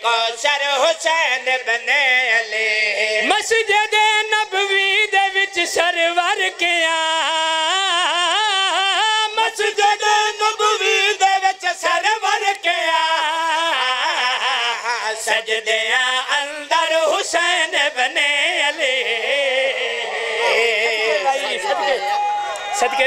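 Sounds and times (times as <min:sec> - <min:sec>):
men singing into microphones: 0:00.0 - 0:23.0.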